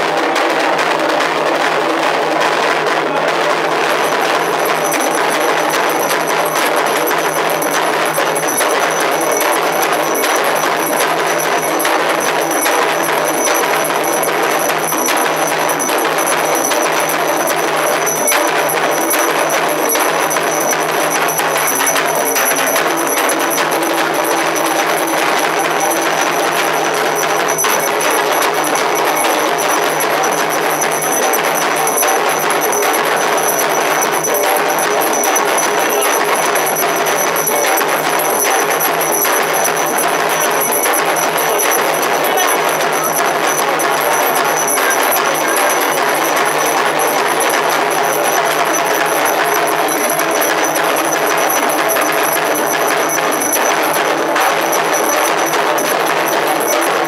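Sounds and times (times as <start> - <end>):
ritual drumming and percussion: 0.0 - 57.0.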